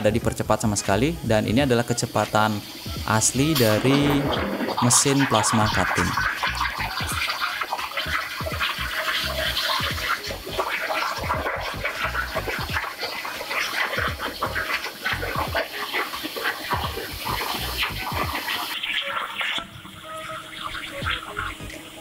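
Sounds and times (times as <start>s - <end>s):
plasma cutter hissing and crackling: 1.1s - 19.7s.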